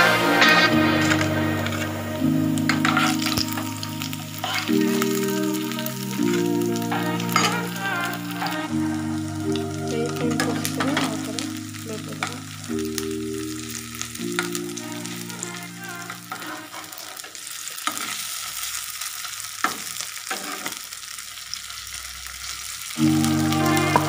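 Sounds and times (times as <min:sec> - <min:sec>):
fish fritters sizzling in oil: 0:00.0 - 0:24.0.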